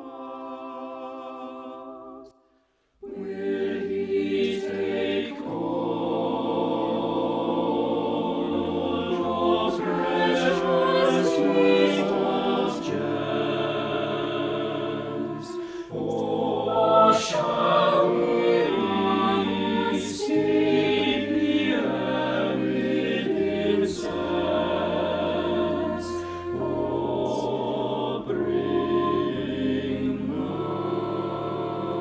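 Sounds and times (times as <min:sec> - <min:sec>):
vocal group singing carol: 0:00.0 - 0:02.4, 0:03.0 - 0:32.0.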